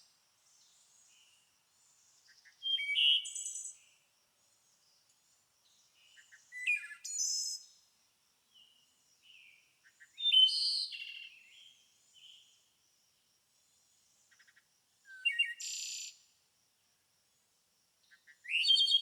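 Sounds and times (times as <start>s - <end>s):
songbirds singing: 0.0s - 7.9s, 8.5s - 12.7s, 13.7s - 16.2s, 18.0s - 19.0s.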